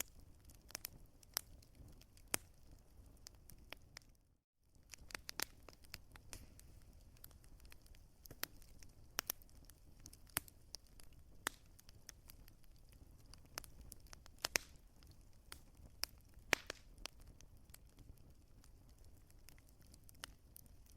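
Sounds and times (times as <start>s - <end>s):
low rumble of burning logs: 0.0s - 20.9s
wood fire crackling: 0.0s - 20.9s.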